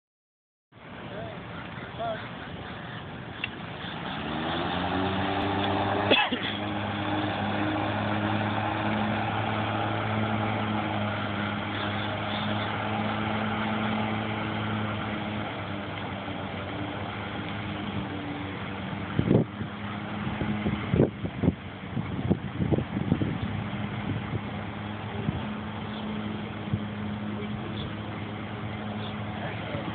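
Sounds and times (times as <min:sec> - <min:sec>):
robotic lawnmower motor hum: 0:04.0 - 0:29.9.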